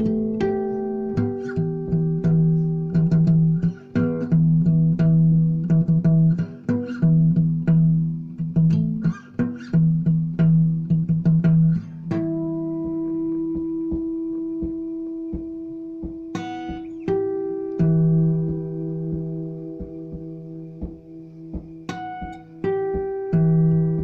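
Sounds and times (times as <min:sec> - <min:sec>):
plucked string music: 0:00.0 - 0:24.0.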